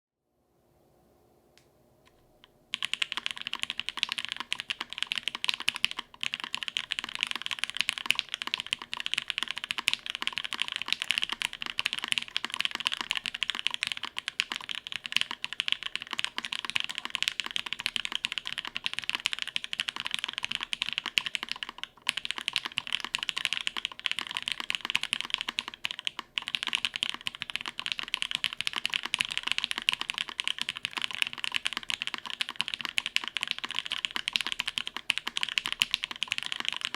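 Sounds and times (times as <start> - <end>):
fast typing on mechanical keyboard: 2.8 - 36.9.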